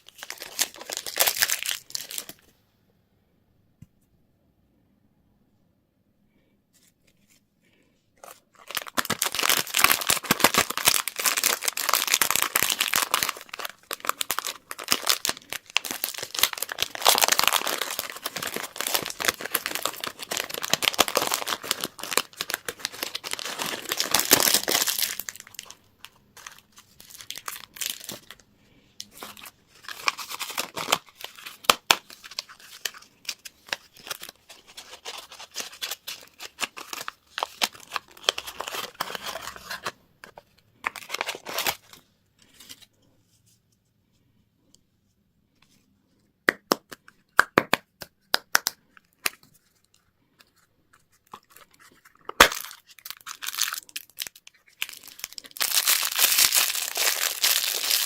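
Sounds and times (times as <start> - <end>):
candy wrappers crinkling: 0.0 - 2.5, 8.2 - 42.9, 48.4 - 58.0.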